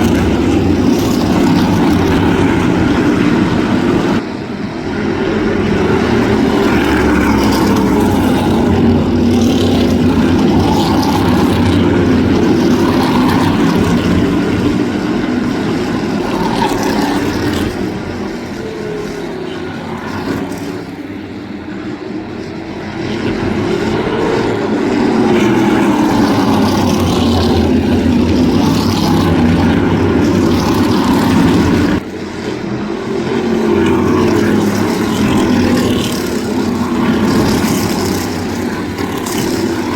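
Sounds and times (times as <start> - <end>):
race car engines passing: 0.0 - 39.9.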